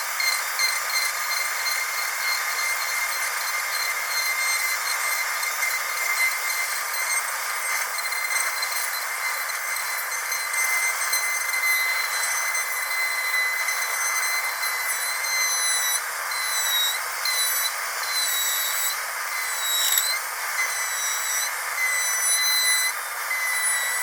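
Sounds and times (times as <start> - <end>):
dental drill whining: 0.0 - 24.0.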